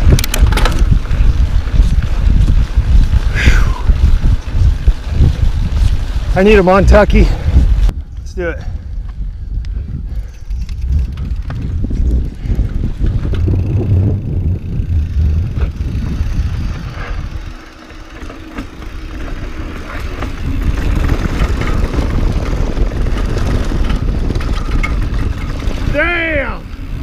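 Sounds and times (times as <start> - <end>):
mountain bike rattling: 0.0 - 27.0
tyres rumbling on dirt trail: 0.0 - 27.0
wind buffeting microphone: 0.0 - 27.0.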